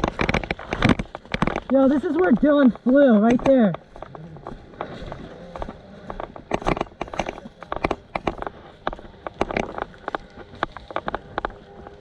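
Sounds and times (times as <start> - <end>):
footsteps crunching: 0.0 - 12.0.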